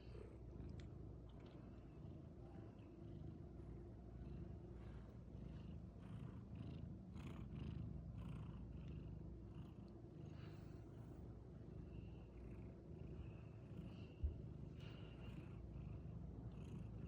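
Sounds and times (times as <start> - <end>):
cat purring: 1.9 - 17.0.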